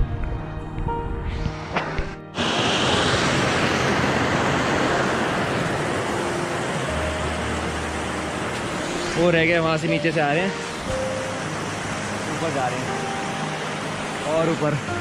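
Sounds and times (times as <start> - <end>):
background music: 0.0 - 15.0
water falling at a waterfall: 1.8 - 15.0.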